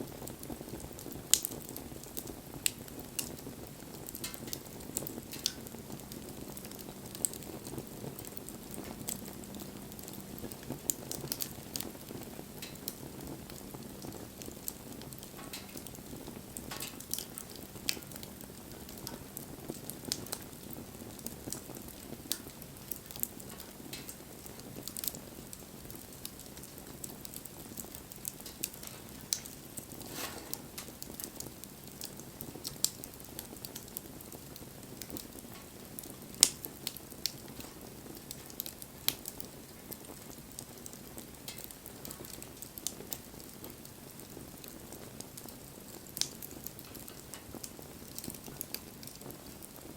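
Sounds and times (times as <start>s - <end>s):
bonfire crackling and popping: 0.0s - 49.9s
low rush of burning fire: 0.1s - 49.9s.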